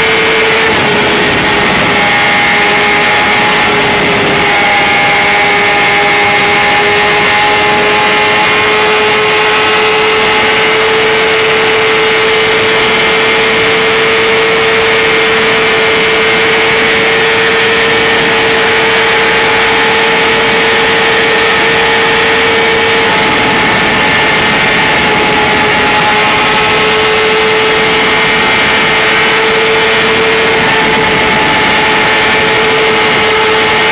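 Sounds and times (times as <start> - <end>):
motorcycle engine at full throttle: 0.0 - 33.9
wind noise rushing: 0.0 - 33.9.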